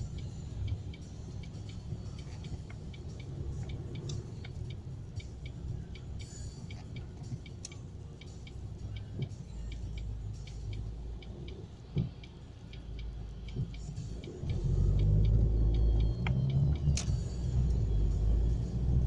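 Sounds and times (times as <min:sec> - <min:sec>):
engine and road rumble: 0:00.0 - 0:19.0
turn signal ticking: 0:00.0 - 0:19.0.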